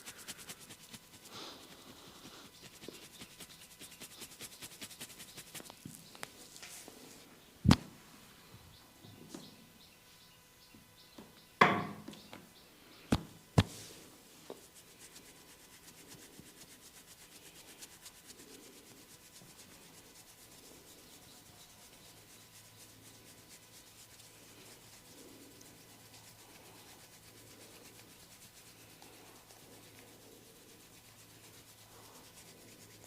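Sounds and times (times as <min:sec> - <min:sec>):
hands scratching through hair: 0:00.0 - 0:07.8, 0:13.1 - 0:33.0.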